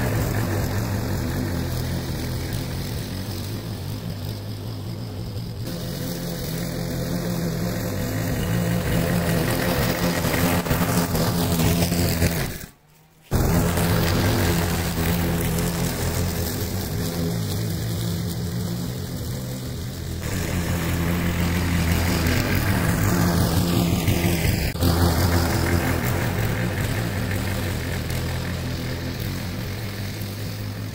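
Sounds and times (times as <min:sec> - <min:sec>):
lawn mower engine running: 0:00.0 - 0:30.9.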